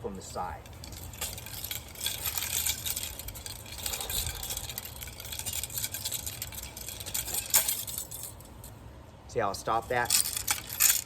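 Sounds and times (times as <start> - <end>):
chains jingling and rattling: 0.5 - 8.7, 9.8 - 11.0.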